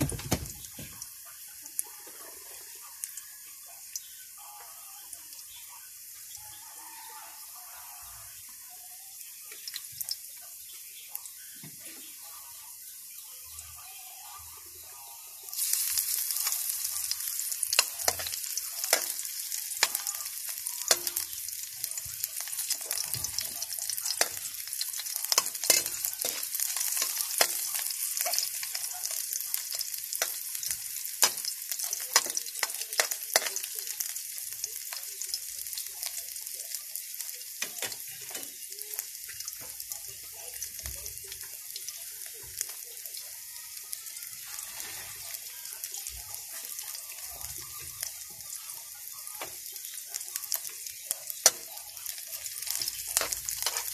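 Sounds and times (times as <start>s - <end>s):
onion sizzling in a pan: 0.0s - 53.9s.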